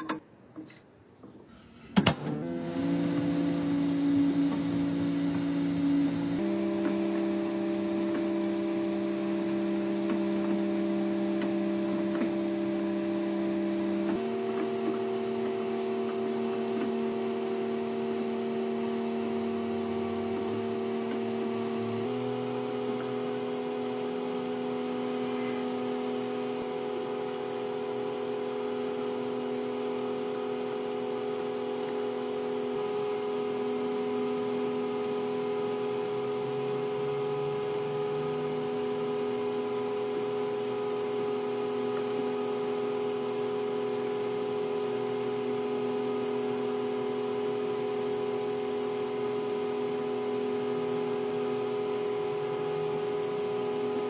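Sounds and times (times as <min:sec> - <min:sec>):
microwave oven humming: 0:01.9 - 0:54.0.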